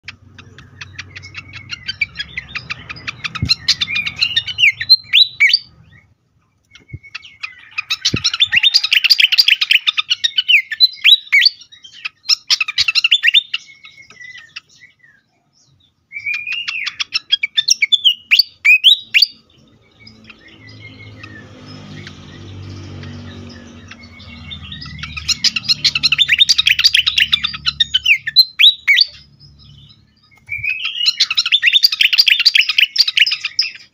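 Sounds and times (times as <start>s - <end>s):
bird chattering and whistling: 0.0s - 33.9s.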